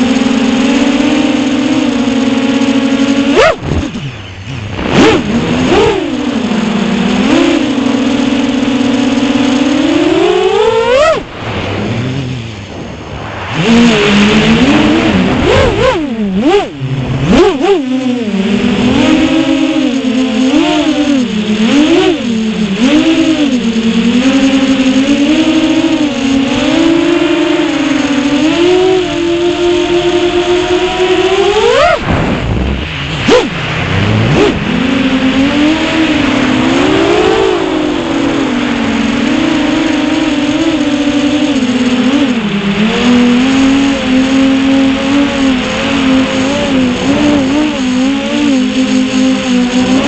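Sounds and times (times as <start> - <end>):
quadcopter motors whining: 0.0 - 50.0.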